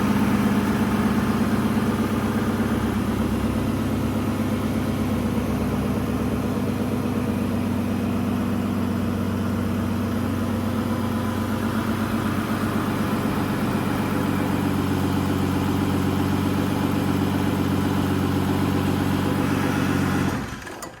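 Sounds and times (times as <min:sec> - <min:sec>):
car engine idling: 0:00.0 - 0:20.6.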